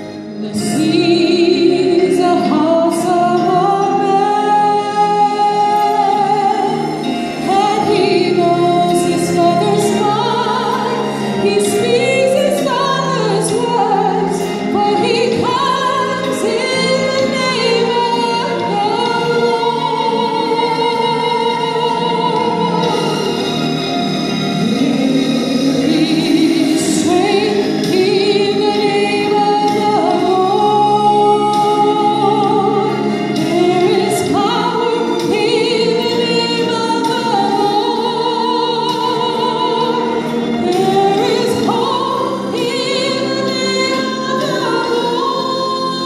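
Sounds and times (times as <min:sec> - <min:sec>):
woman singing slow melody: 0:00.0 - 0:23.7, 0:24.5 - 0:46.0
sustained accompaniment: 0:00.0 - 0:46.0.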